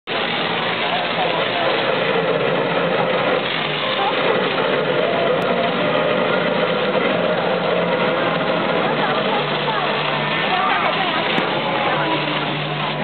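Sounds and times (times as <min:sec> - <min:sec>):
faint children's voices: 0:00.1 - 0:13.0
fire hose spraying water: 0:00.1 - 0:13.0.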